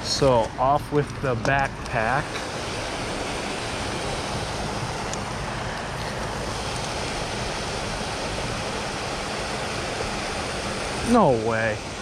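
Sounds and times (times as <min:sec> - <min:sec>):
creek water rushing over rocks: 0:01.5 - 0:12.0.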